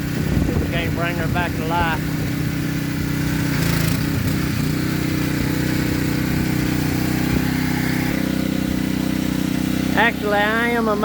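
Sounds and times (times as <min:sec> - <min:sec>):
pressure washer running: 0:00.0 - 0:11.0.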